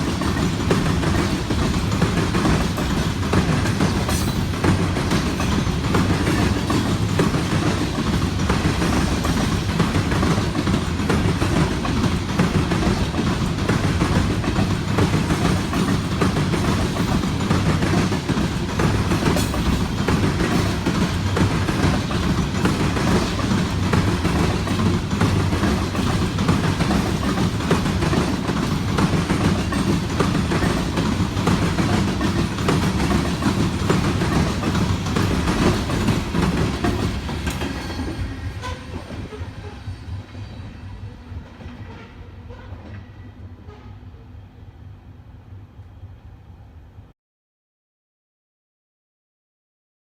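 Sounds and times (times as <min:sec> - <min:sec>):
freight train cars rolling past: 0:00.0 - 0:44.8.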